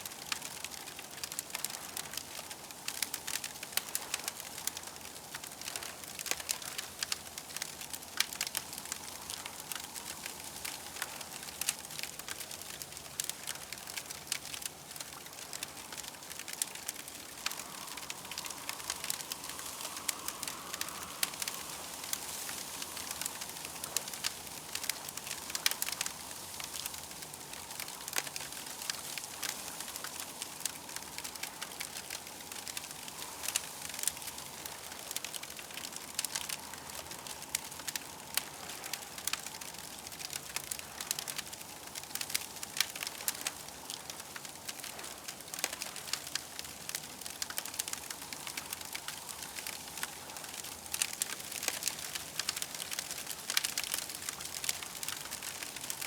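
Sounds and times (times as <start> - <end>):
campfire popping and snapping: 0.0 - 56.0
fire hissing: 0.2 - 56.0.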